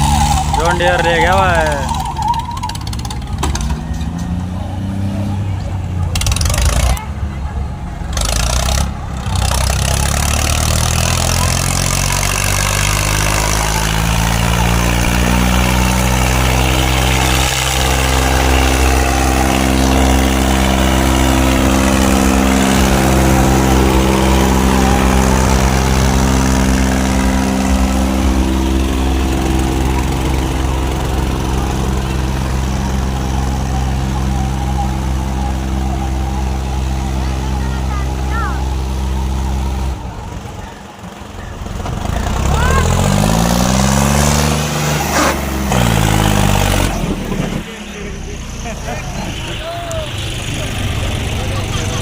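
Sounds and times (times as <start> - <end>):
tractor diesel engines labouring: 0.0 - 52.0.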